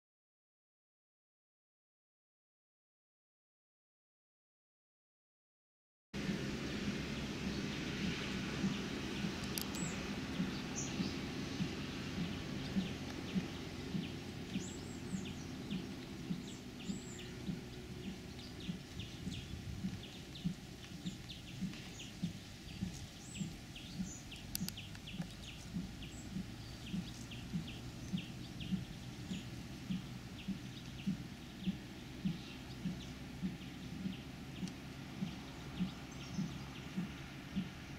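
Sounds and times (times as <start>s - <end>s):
birds chirping: 6.2s - 37.9s
tractor droning: 6.2s - 37.9s.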